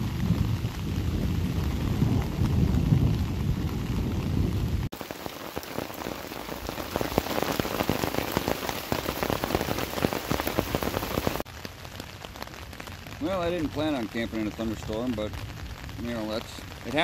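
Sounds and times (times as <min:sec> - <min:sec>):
heavy rain pattering on tarp: 0:00.0 - 0:17.0
rainwater running off in stream: 0:00.0 - 0:17.0.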